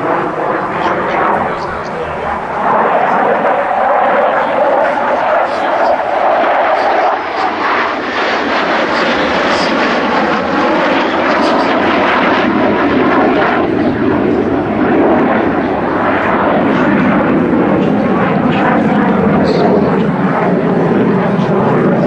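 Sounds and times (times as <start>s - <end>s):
jet engine roaring: 0.0s - 22.0s.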